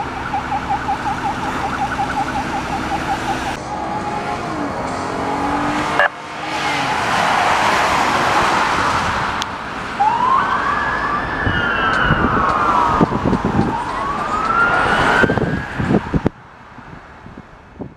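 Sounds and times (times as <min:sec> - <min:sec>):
police siren wailing: 0:00.0 - 0:08.6, 0:10.0 - 0:16.3
loud rushing noise: 0:00.0 - 0:16.3.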